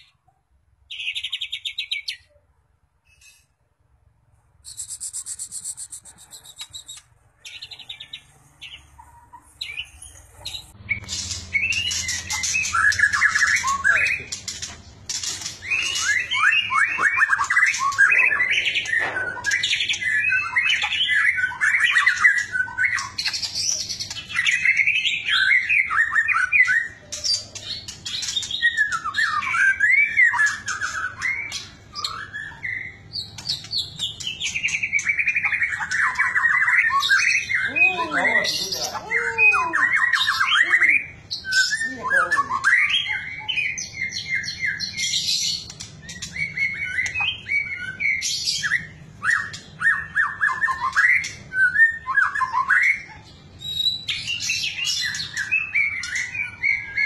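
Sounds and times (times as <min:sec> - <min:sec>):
songbird singing whistles and trills: 0:00.9 - 0:02.4, 0:04.6 - 0:14.6, 0:15.4 - 0:57.0.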